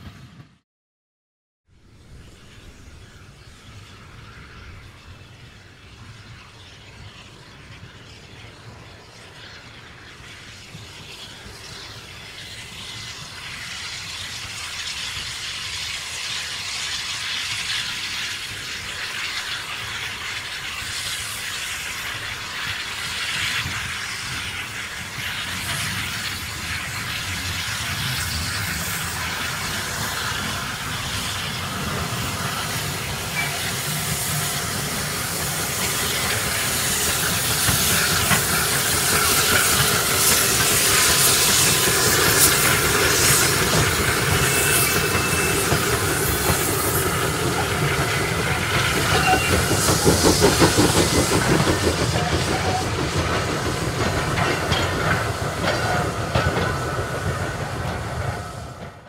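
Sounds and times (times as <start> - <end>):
steam locomotive working: 0.0 - 0.6, 1.8 - 59.0
steam hissing: 1.8 - 59.0.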